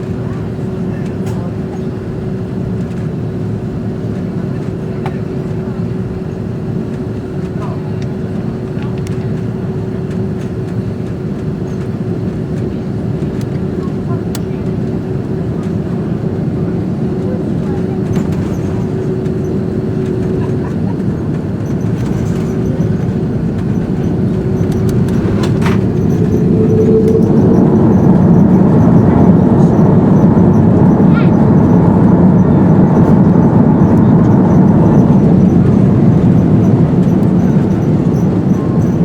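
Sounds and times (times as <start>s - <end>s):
jet engine cabin roar: 0.0s - 39.0s.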